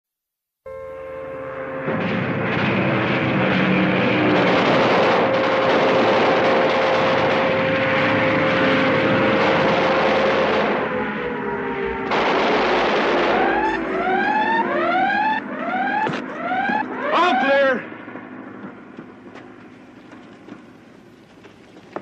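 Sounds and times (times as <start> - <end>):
propeller airplane engine droning: 0.7 - 22.0.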